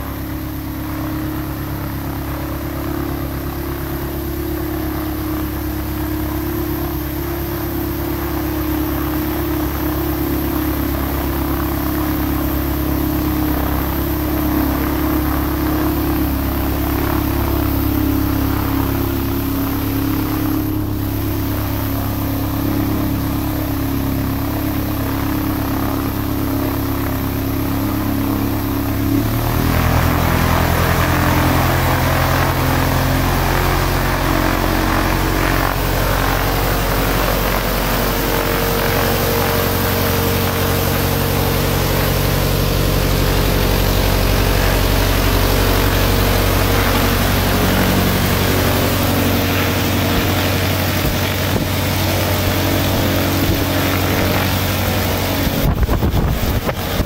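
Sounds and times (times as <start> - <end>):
aircraft engine running: 0.0 - 57.0.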